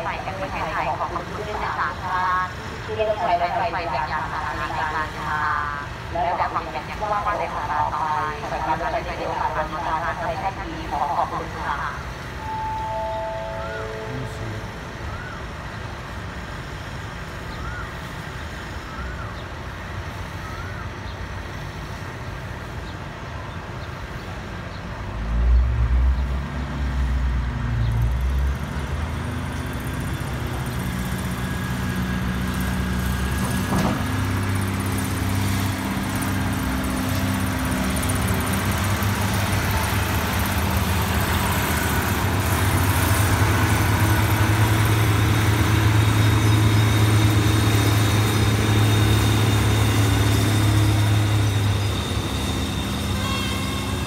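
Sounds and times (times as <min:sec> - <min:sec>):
diesel train engine: 0:00.0 - 0:54.0.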